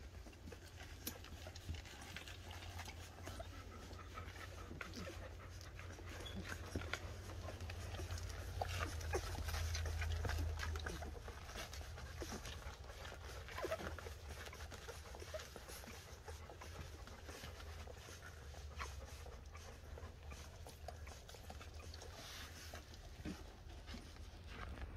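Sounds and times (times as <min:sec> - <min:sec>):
dog panting: 0:00.0 - 0:24.9
puppies suckling clicks: 0:00.0 - 0:24.9
puppies squeaking: 0:00.2 - 0:24.6.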